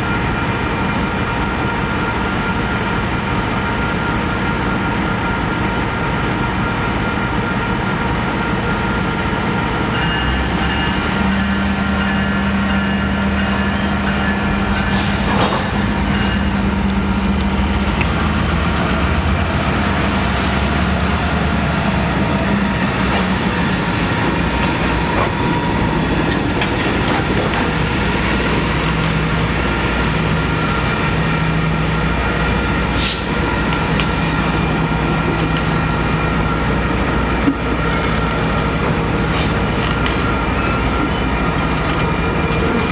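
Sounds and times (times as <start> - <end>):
train rumbling on rails: 0.0 - 42.9.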